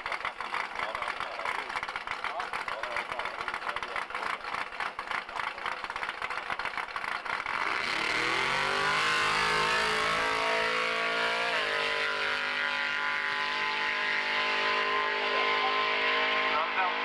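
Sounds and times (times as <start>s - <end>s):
drag car engine revving: 0.0s - 17.0s.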